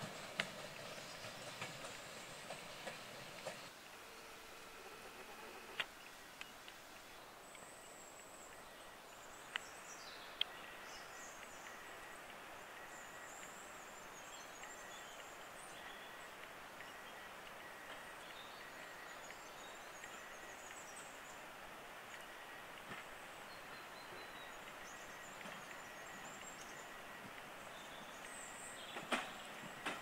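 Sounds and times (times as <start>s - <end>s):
faint hiss: 0.0s - 30.0s
small birds chirping: 0.6s - 30.0s.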